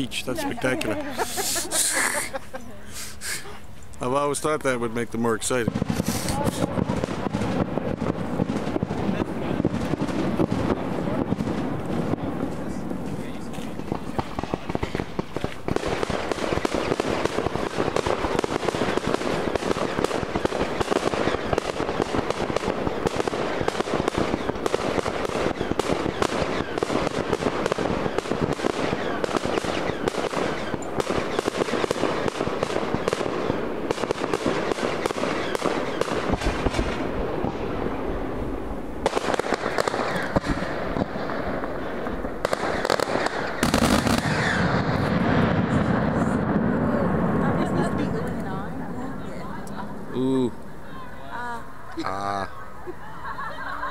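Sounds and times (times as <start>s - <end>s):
fireworks bangs and crackles: 0.0s - 2.5s, 4.0s - 52.6s.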